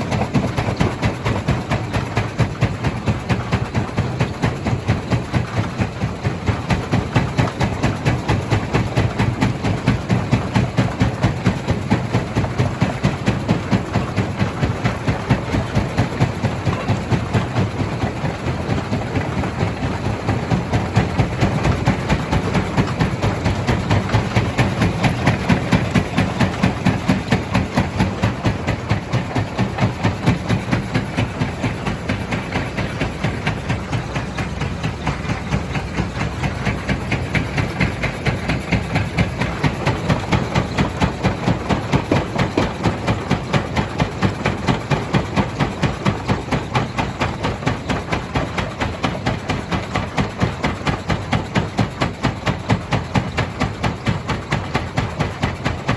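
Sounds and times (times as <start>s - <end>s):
stone crusher pounding: 0.0s - 55.9s.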